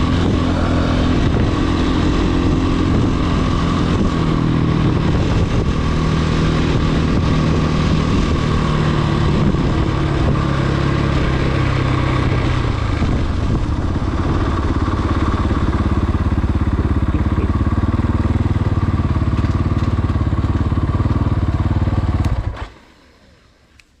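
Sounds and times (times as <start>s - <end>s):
dirt bike engine running: 0.0s - 22.8s.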